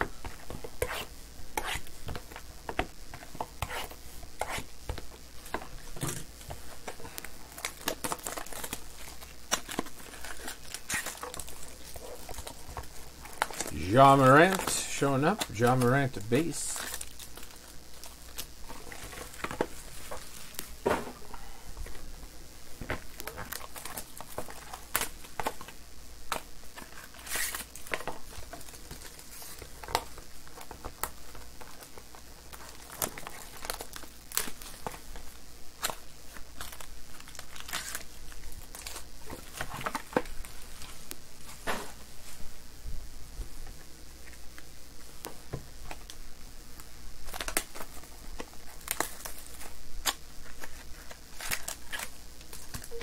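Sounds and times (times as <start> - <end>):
cards and packaging rustling: 0.0 - 22.1, 22.8 - 42.5, 47.2 - 53.0
foil wrappers crinkling and tearing: 1.7 - 20.8, 22.8 - 42.4, 46.8 - 53.0.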